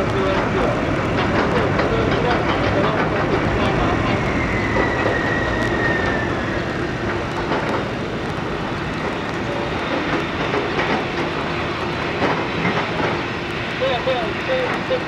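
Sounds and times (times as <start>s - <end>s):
loud vehicle noise with whine: 0.0s - 15.0s.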